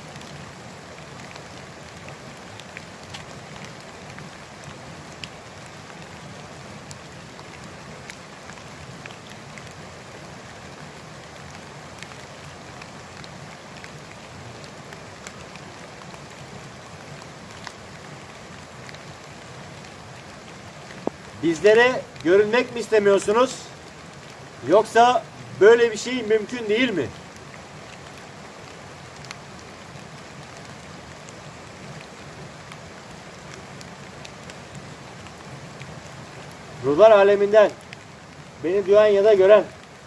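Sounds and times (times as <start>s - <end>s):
light rain falling: 0.0s - 40.0s.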